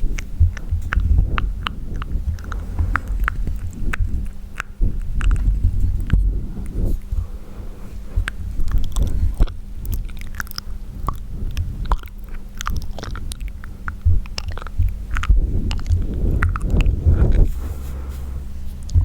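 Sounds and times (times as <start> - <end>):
wet mouth clicks and smacks: 0.0 - 7.2, 8.2 - 17.8.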